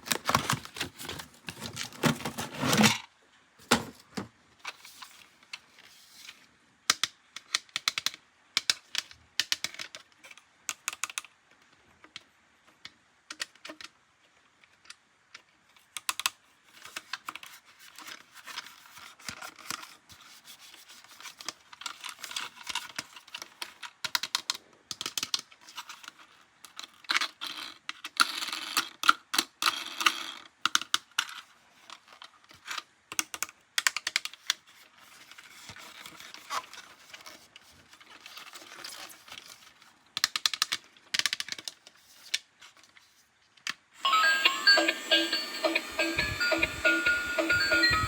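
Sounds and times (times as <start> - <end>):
handling plastic toys and packaging: 0.0 - 44.2.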